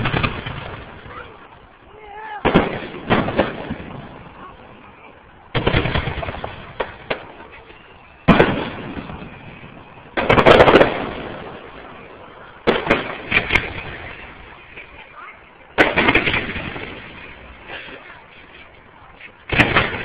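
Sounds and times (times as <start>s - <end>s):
fireworks booming: 0.0s - 20.0s.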